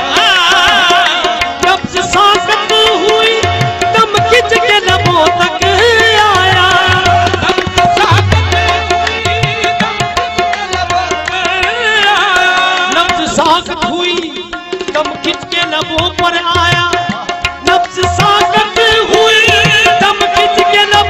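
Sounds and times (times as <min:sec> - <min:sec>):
drum strokes in steady rhythm: 0:00.0 - 0:21.0.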